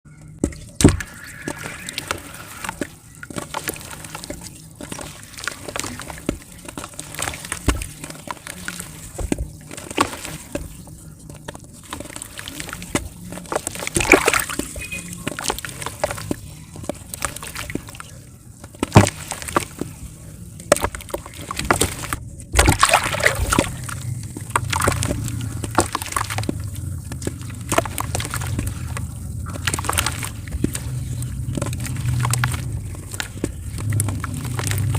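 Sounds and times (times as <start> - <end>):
clay crackling and popping in water: 0.1 - 34.9
water sloshing and splashing: 0.2 - 34.9.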